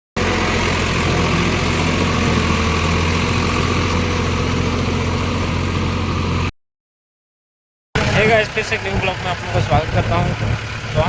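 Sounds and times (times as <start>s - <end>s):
tractor diesel engine running: 0.2s - 6.5s, 8.0s - 11.0s.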